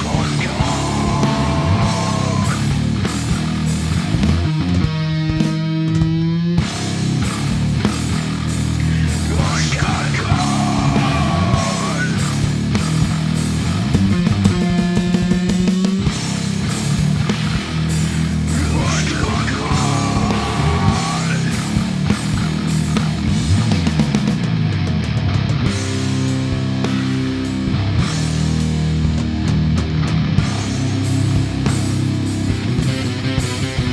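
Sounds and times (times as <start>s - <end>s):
distorted bass guitar: 0.0s - 33.9s
rock drums: 0.0s - 33.9s.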